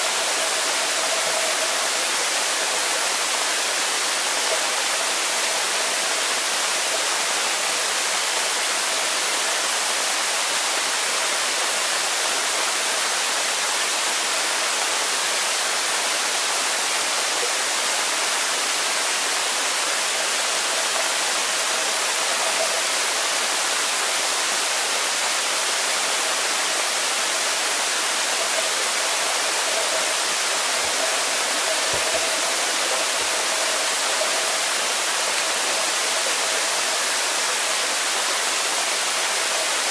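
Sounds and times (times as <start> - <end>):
underwater water hiss: 0.0 - 39.9.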